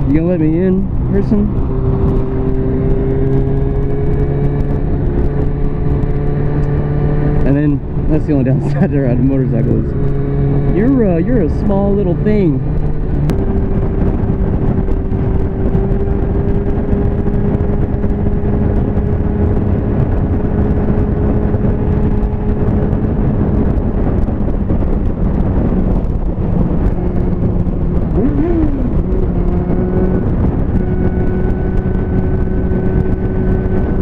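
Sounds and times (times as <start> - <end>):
motorcycle engine cruising: 0.0 - 34.0
wind rush: 0.0 - 34.0.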